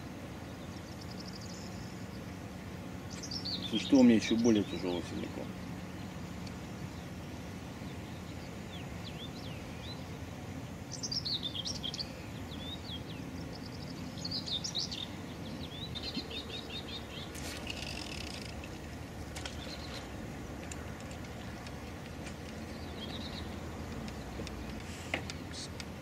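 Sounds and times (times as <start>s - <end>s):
steady background hiss: 0.0s - 26.0s
small birds chirping: 3.0s - 26.0s.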